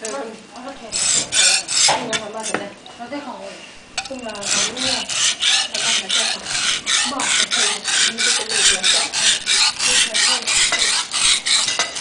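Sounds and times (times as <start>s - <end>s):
knife grinding on whetstone: 0.9s - 2.6s, 4.0s - 12.0s.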